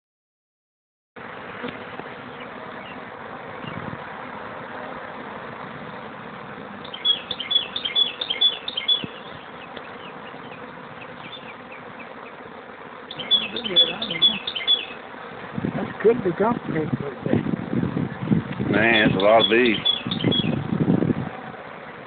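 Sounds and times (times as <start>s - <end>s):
honeybee swarm buzzing: 1.2s - 22.0s.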